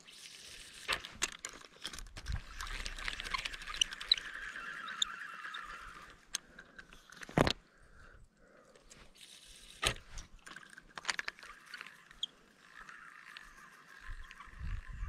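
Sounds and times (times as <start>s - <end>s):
spinning reel winding: 0.0s - 7.0s, 9.2s - 15.0s
reel clicks: 0.0s - 15.0s.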